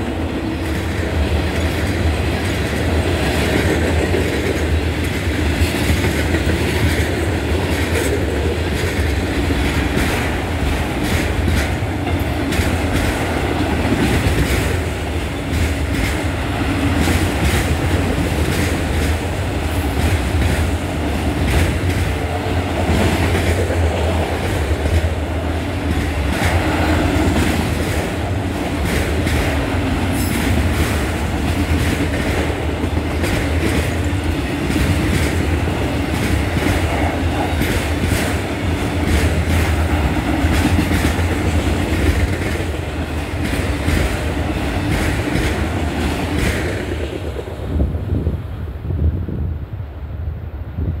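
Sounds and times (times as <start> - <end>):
train wheels clacking over rail joints: 0.0 - 47.5
freight train rumbling past: 0.0 - 51.0.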